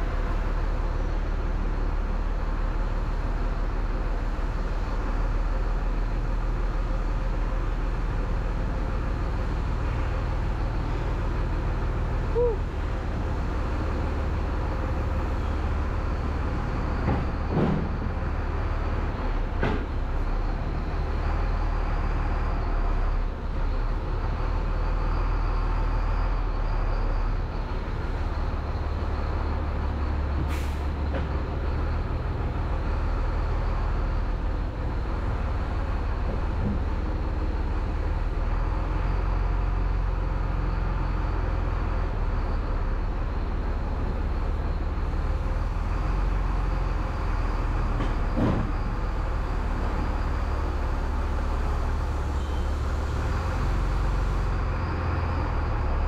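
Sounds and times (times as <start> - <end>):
diesel truck engine idling low: 0.0 - 56.0.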